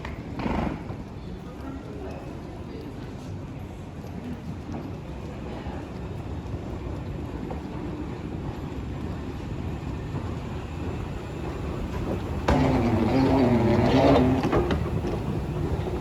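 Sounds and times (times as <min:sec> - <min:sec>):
railway station rumble: 0:00.0 - 0:16.0.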